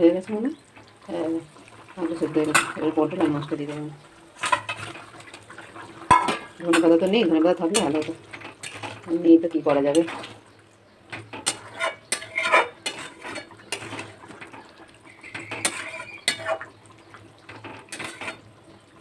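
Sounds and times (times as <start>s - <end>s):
metal utensils and pot clattering: 0.0s - 19.0s.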